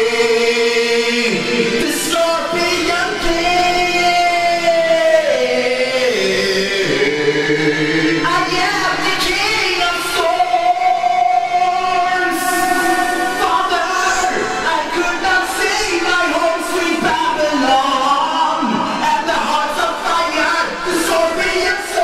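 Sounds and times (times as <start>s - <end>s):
music with singing: 0.0s - 22.0s.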